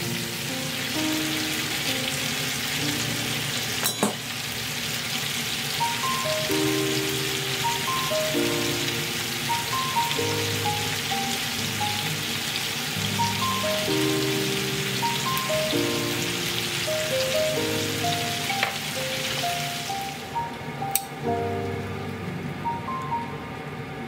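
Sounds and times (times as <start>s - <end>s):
food sizzling in frying pan: 0.0s - 23.0s
soft background music: 0.0s - 24.0s.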